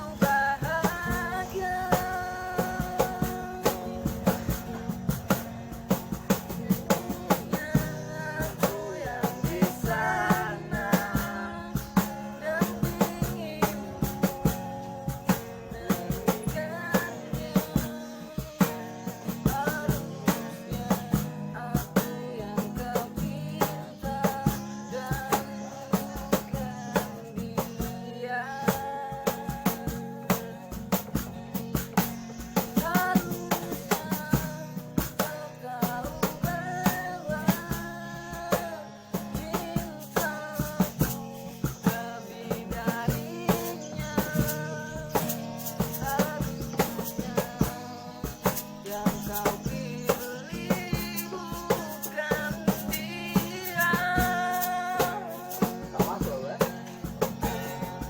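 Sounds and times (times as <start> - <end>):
pop-rock song with singing: 0.0 - 58.0.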